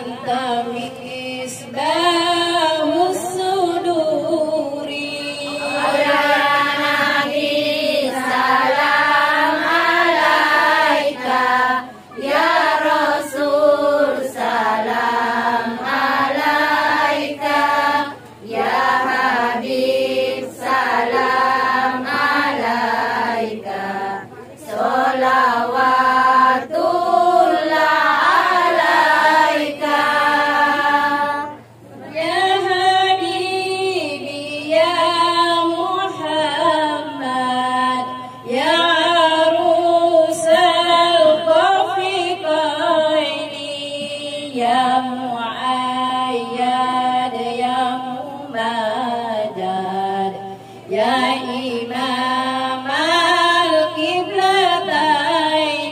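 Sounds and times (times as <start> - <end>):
women singing devotional songs: 0.0 - 55.9.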